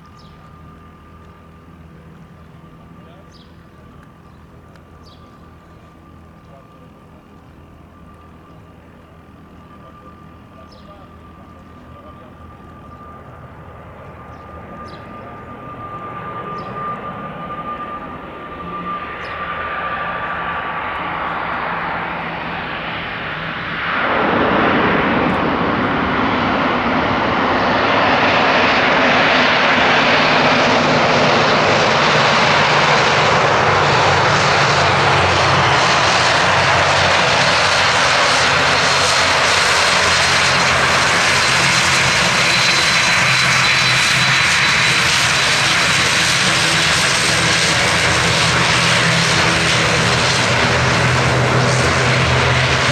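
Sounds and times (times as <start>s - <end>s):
turboprop engines roaring: 0.0s - 52.9s.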